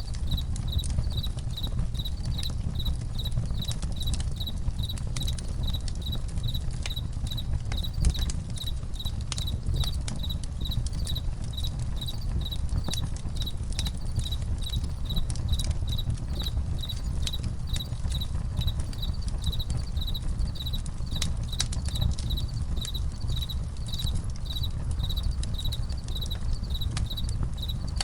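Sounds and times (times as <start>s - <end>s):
campfire crackling and popping: 0.0s - 28.0s
crickets chirping: 0.0s - 28.0s
low rumble of flame: 0.0s - 28.0s.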